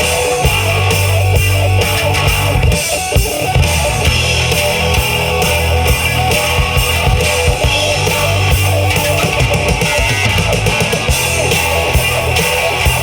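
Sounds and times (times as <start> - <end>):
bass guitar: 0.0 - 13.0
drum kit beat: 0.0 - 13.0
electric guitars: 0.0 - 13.0.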